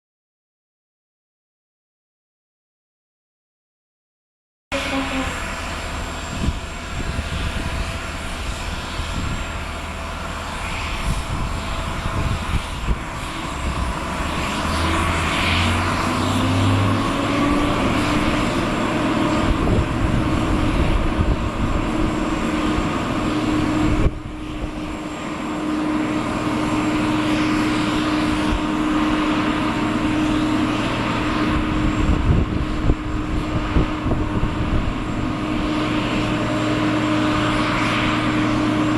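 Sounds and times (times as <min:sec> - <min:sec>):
jet engines whining: 0:04.7 - 0:38.9.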